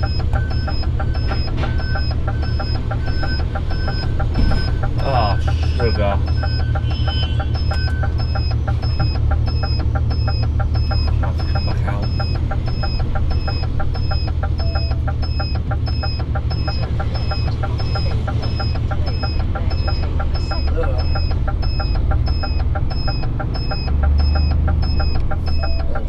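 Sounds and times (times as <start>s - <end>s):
indicator ticking: 0.0s - 26.0s
truck diesel engine idling: 0.0s - 26.0s.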